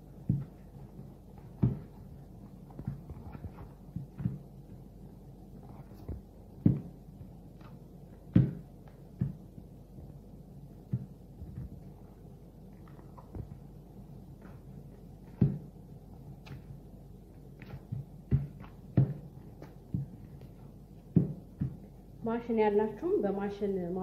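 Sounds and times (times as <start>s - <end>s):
dough kneaded in plastic bowl: 0.0s - 23.0s.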